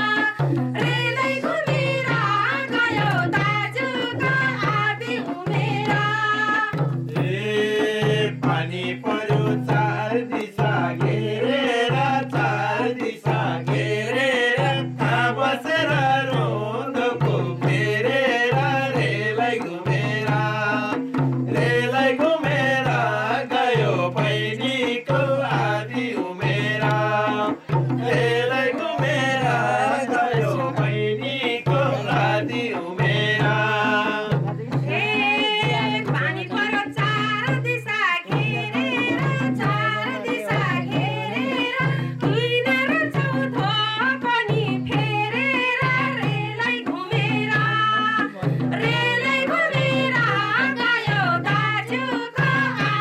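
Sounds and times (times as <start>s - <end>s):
low hand drum beat: 0.0s - 53.0s
voices singing into a microphone: 0.0s - 53.0s.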